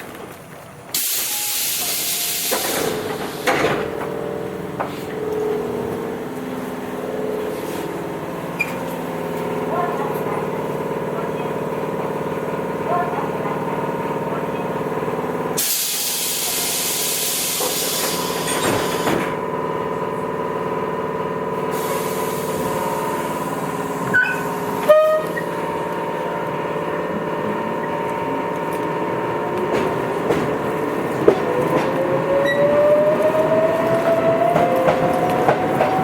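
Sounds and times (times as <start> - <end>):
electric train hum: 0.0 - 36.0.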